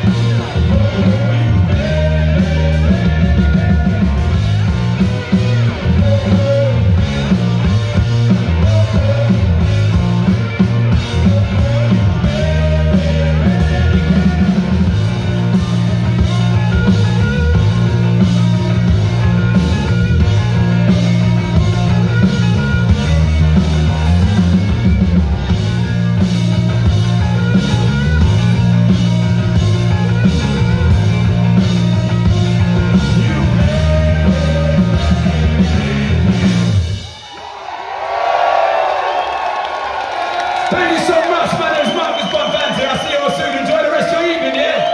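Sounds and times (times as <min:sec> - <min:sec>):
electric guitar: 0:00.0 - 0:37.2
drum kit: 0:00.0 - 0:37.4.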